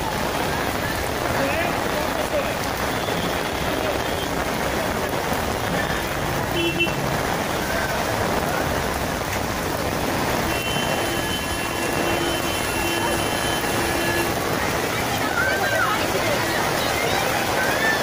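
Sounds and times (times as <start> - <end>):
steady rain on a street: 0.0 - 18.0
traffic in a jam: 0.0 - 18.0.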